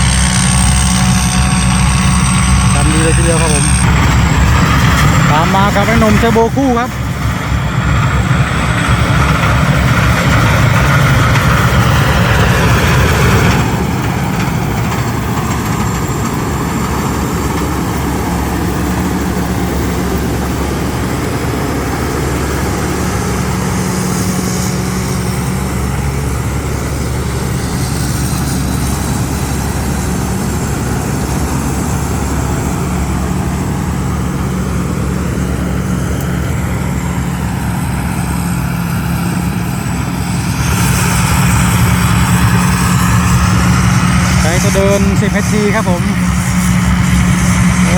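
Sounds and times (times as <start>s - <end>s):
combine harvester engines running: 0.0s - 47.9s.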